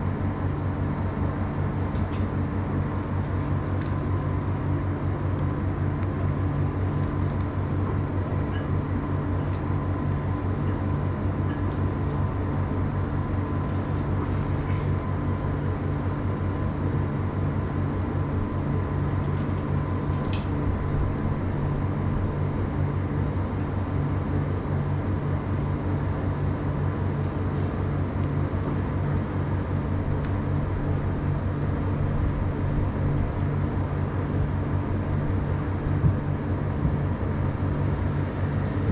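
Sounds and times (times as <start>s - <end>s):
mechanical hum: 0.0s - 38.9s.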